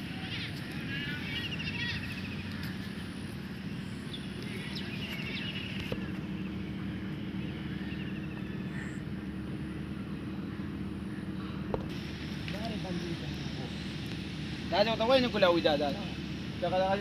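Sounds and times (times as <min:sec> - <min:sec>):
birds trilling: 0:00.0 - 0:17.0
steady low hum: 0:00.0 - 0:17.0.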